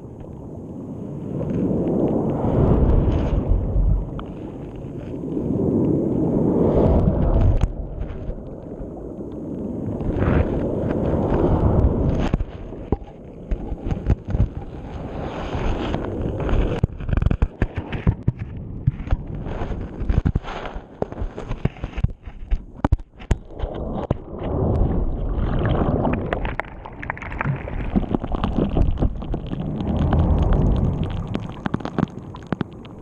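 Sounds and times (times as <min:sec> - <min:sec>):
underwater rumbling wash: 0:00.0 - 0:33.0.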